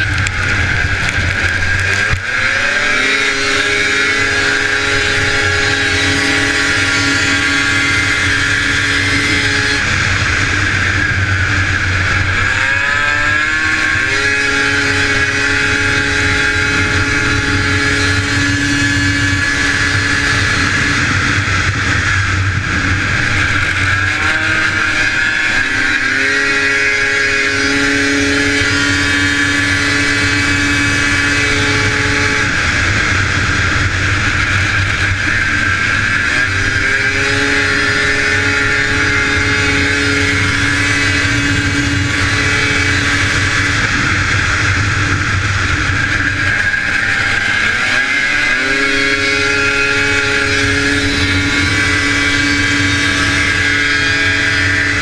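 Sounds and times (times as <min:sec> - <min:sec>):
snowmobile engine revving high: 0:00.0 - 0:55.0.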